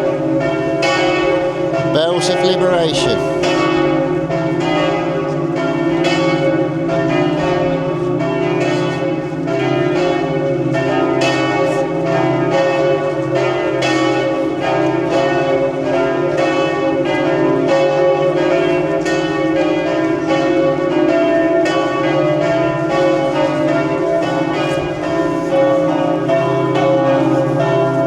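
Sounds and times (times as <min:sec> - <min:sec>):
church bells pealing: 0:00.0 - 0:28.0.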